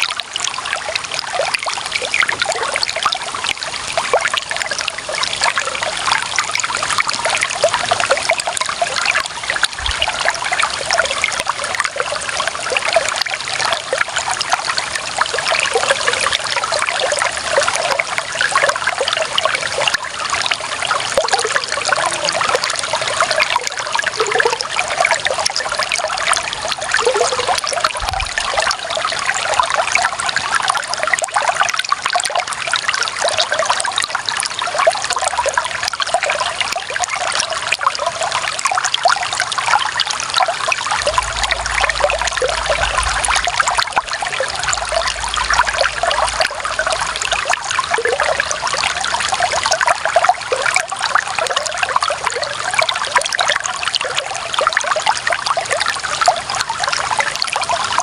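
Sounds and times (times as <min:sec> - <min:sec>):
stream water trickling over stones: 0:00.0 - 0:58.0.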